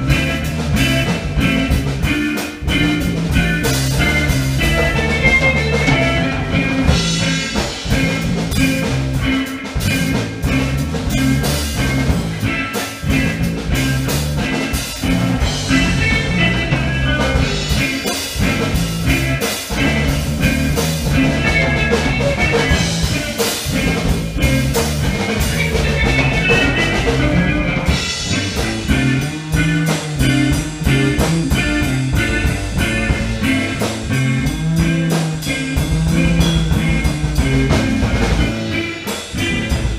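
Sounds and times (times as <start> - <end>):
bass line: 0.0 - 39.9
drum kit beat: 0.0 - 39.9
guitar: 0.0 - 39.9.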